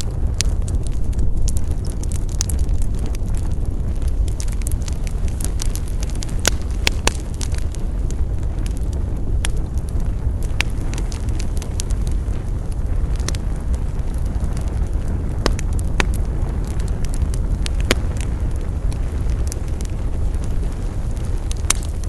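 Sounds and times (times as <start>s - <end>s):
campfire flames rushing: 0.0s - 22.0s
fire crackles and pops: 0.0s - 22.0s.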